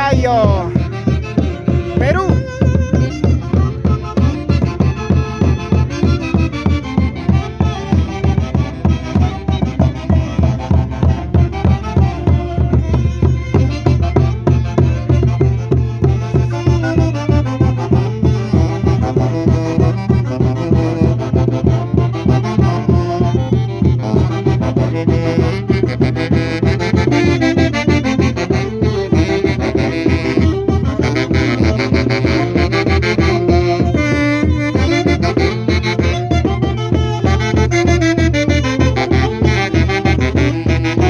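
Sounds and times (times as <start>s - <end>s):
wind instruments playing tune: 0.0s - 41.0s.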